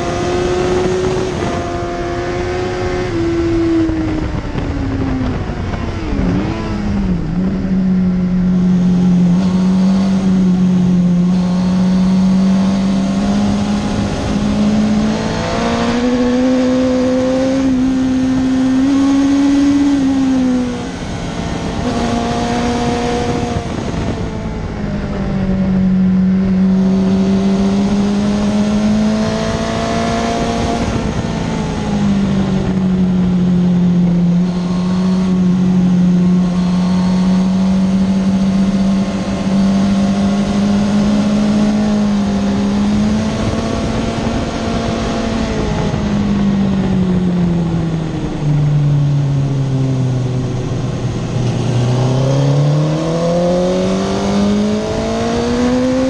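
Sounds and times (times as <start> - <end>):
motorcycle engine pulling hard: 0.0 - 56.0
rushing wind: 0.0 - 56.0.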